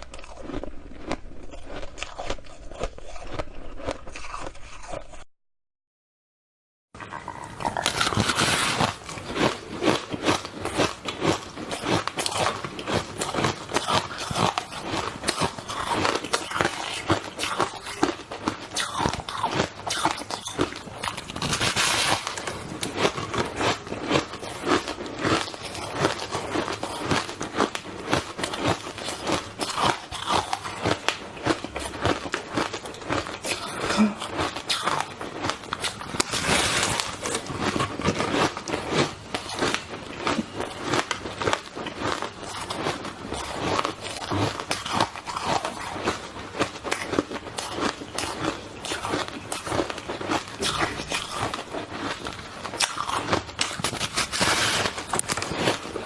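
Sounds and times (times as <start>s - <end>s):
ice being chewed and crunched: 0.0s - 5.3s, 7.0s - 56.0s.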